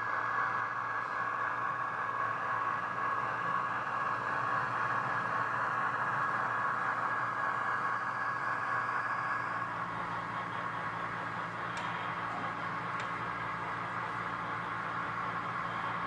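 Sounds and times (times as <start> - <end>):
model locomotives whirring: 0.0 - 16.0.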